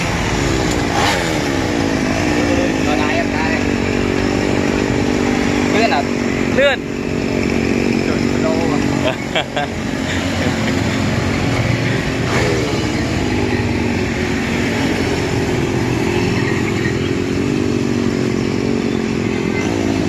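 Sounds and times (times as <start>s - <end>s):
two-stroke mini bike engine: 0.0s - 20.0s.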